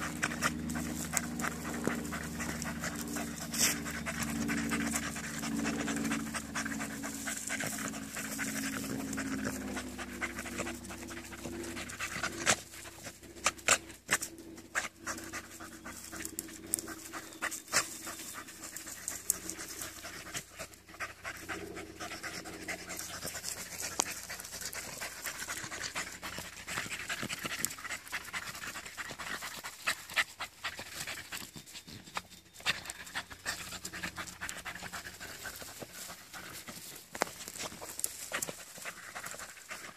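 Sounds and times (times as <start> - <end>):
dogs panting hard: 0.0 - 39.9.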